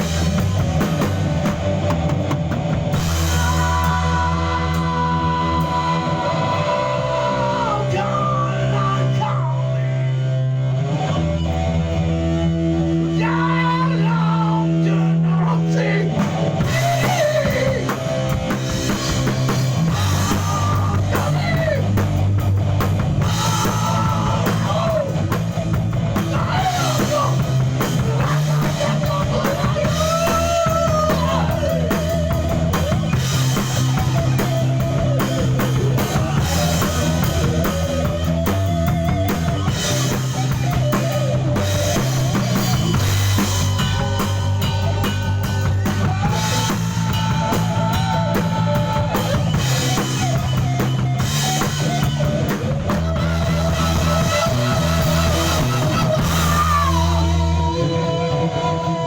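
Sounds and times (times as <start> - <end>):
drum kit with cymbals: 0.0 - 7.3, 16.1 - 59.0
bending lead guitar melody: 0.0 - 59.0
guitar and bass chords: 0.0 - 59.0.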